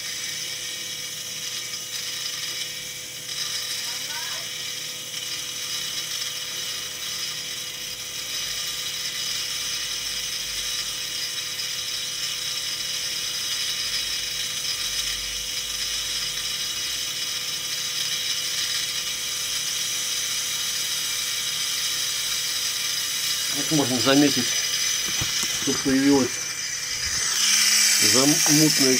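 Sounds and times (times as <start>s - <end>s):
electric drill grinding: 0.0s - 28.9s.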